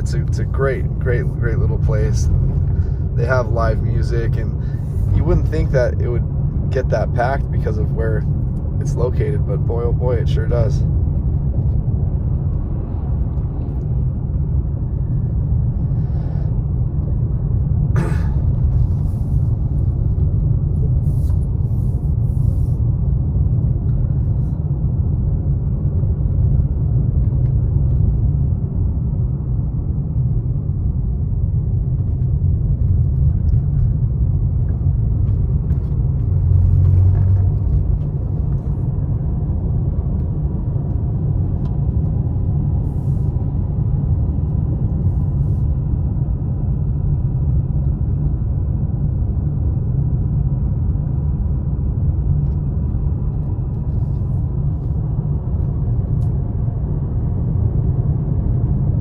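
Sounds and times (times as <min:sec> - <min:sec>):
road and engine rumble in car: 0:00.0 - 0:59.0.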